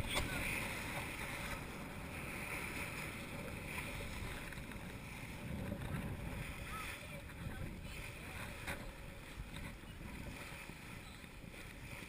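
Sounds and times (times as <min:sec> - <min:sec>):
water washing against boat hull: 0:00.0 - 0:12.0
wind rumbling on microphone: 0:00.0 - 0:12.0.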